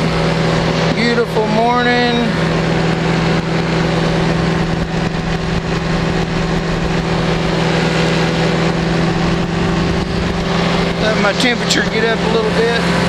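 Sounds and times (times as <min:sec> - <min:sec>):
engine and propeller droning: 0:00.0 - 0:13.0.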